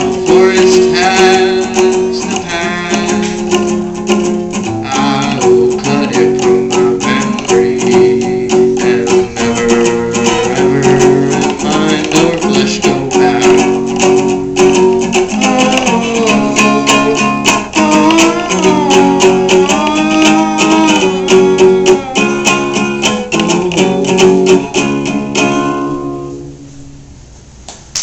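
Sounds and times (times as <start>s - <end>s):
acoustic guitar strumming chords: 0.0s - 27.3s.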